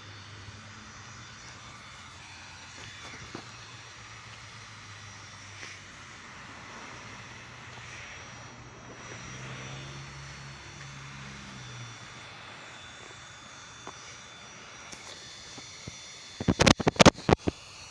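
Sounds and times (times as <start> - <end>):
low droning hum: 0.0 - 17.9.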